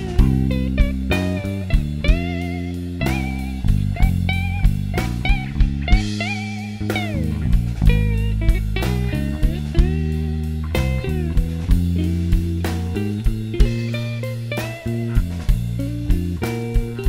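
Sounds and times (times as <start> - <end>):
bass: 0.0 - 17.0
drum hits: 0.0 - 17.0
slide guitar solo: 0.0 - 17.0.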